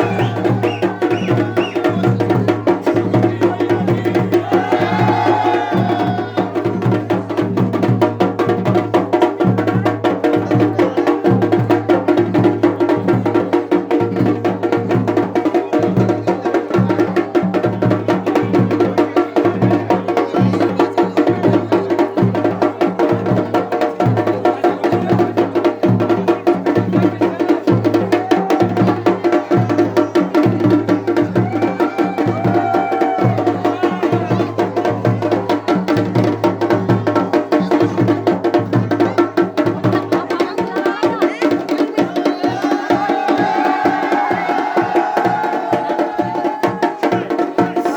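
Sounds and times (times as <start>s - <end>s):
fast dense drumming: 0.0s - 47.9s.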